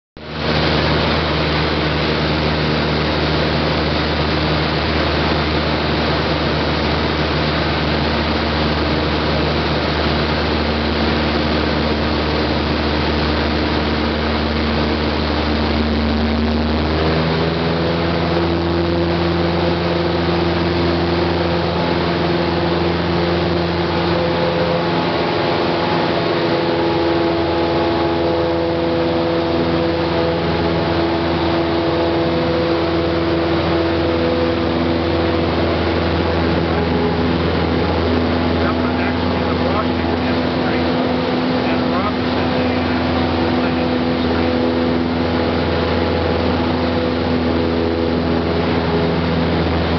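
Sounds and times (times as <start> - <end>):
propeller plane engine droning: 0.2 - 49.9.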